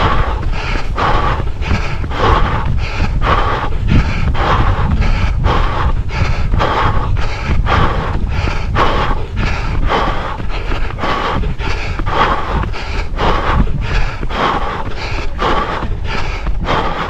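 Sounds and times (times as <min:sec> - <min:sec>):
runner's heavy breathing: 0:00.0 - 0:17.0
wind rumble on microphone: 0:00.0 - 0:17.0.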